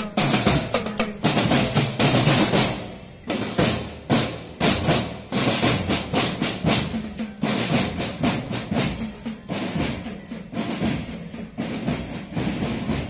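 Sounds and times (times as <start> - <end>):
percussion music with drum beat: 0.0 - 13.0.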